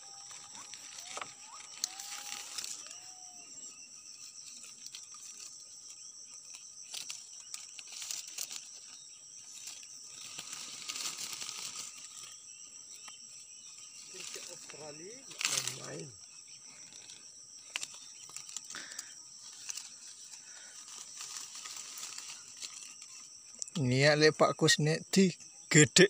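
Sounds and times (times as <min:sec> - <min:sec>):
leaves and twigs rustling: 0:00.0 - 0:25.2
insects droning: 0:00.0 - 0:26.0.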